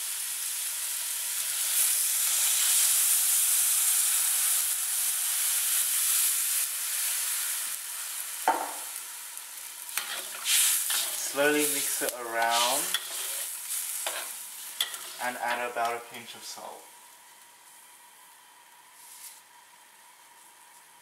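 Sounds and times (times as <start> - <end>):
seafood sizzling in a wok: 0.0 - 20.3.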